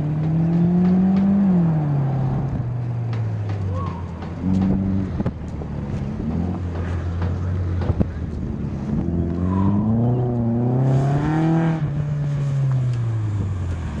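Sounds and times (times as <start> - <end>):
car engine pulling hard: 0.0 - 14.0.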